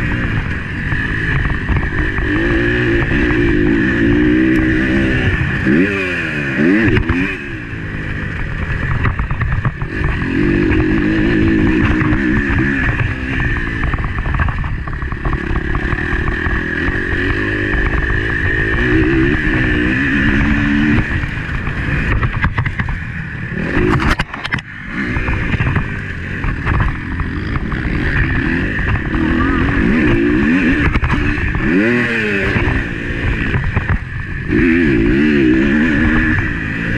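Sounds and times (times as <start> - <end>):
motocross bike engine revving: 0.0 - 36.9.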